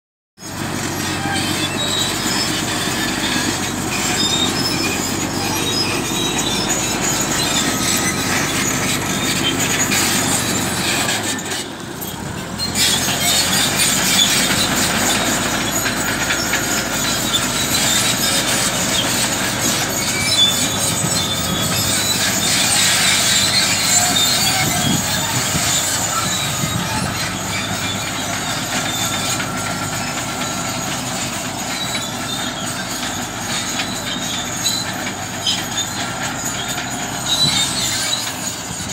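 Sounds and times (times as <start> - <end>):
diesel engine under load: 0.4 - 38.9
steel tracks squealing and clanking: 0.4 - 38.9.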